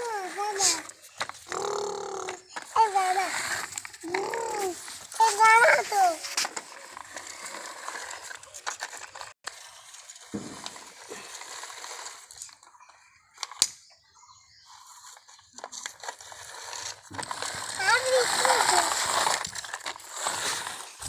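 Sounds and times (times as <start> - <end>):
toy wheels scraping on concrete: 0.0 - 13.7, 14.3 - 21.0.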